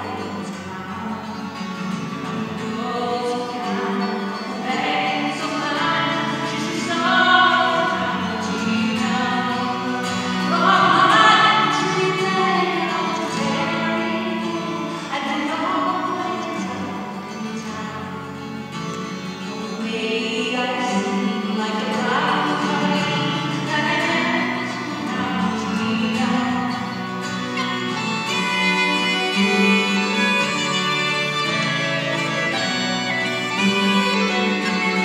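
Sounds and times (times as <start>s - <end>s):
person singing: 0.0s - 18.4s, 19.6s - 35.0s
strummed acoustic guitar: 0.0s - 35.0s.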